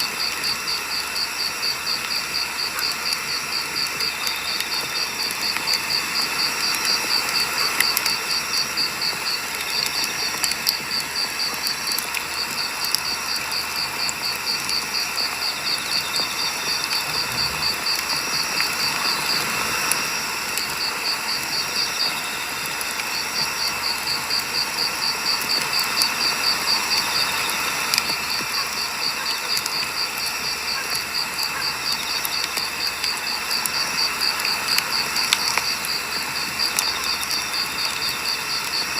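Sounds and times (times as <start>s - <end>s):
campfire crackling and popping: 0.0s - 38.9s
insect chirping: 0.0s - 38.9s.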